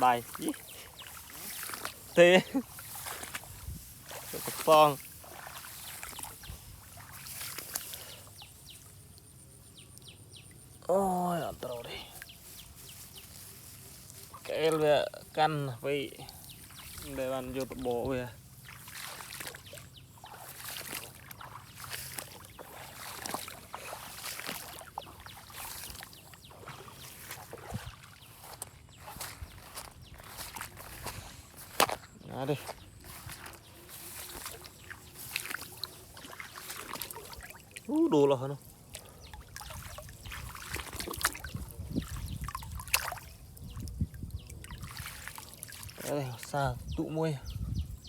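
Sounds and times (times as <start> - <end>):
water splashing and sloshing: 0.0 - 47.1.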